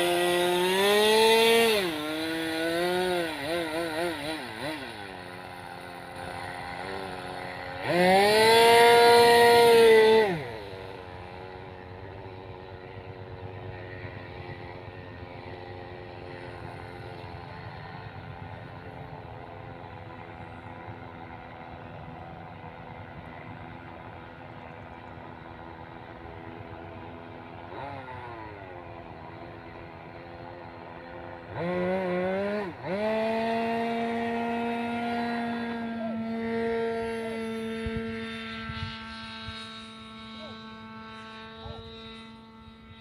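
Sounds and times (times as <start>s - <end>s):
model airplane engine droning: 0.0s - 43.0s.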